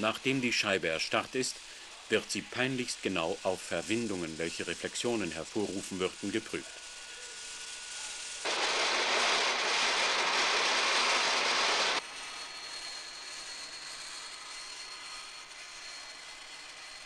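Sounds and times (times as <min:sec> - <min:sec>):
power saw cutting plastic: 0:00.0 - 0:17.0
saw running with high whine: 0:00.0 - 0:17.0.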